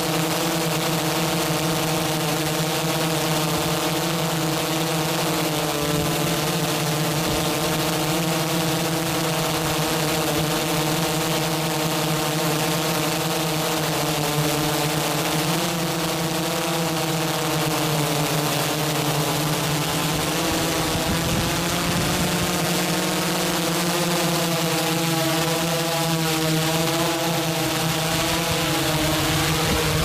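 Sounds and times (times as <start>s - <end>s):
drone propellers humming: 0.0s - 30.0s.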